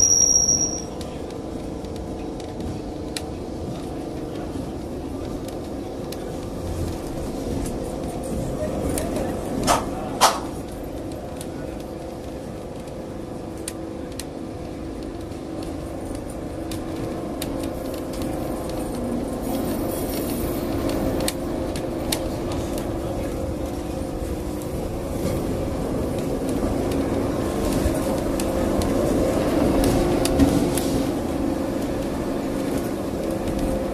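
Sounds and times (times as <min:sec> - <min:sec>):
tram rumbling on rails: 0:00.0 - 0:33.9.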